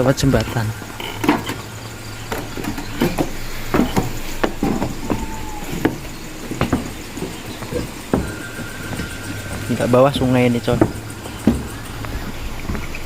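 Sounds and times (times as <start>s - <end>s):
footsteps on footbridge: 0.0s - 13.0s.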